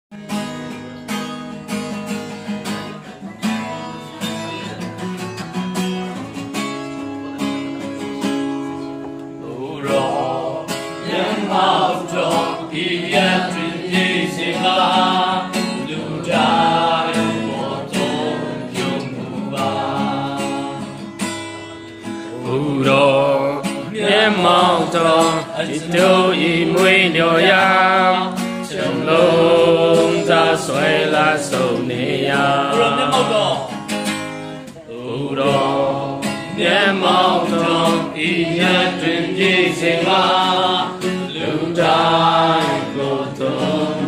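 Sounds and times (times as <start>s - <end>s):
acoustic guitar strumming: 0.1s - 44.0s
congregation singing a hymn: 7.7s - 44.0s.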